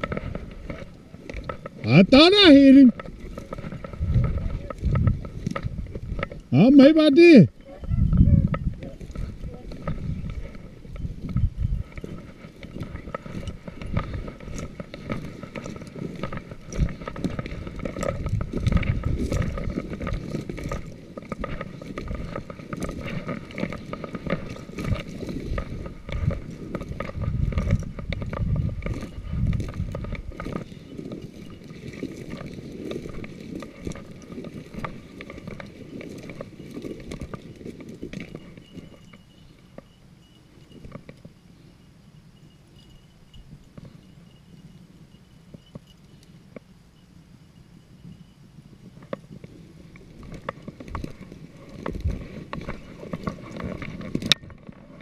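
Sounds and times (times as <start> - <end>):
footsteps in dry grass: 0.0 - 55.0.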